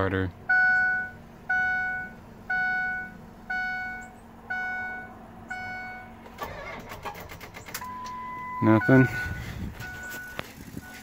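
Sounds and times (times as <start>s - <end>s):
dashboard warning chime: 0.5s - 6.8s, 7.7s - 11.0s.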